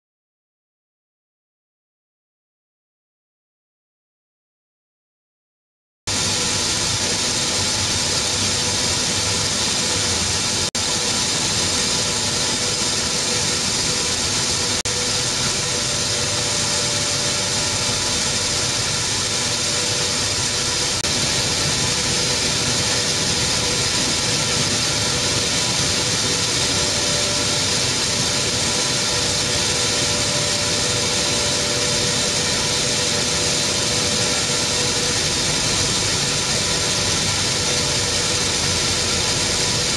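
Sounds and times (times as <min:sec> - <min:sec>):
machinery hiss: 0:06.1 - 0:39.9
machinery hum: 0:06.1 - 0:39.9
milling machinery running: 0:06.1 - 0:39.9.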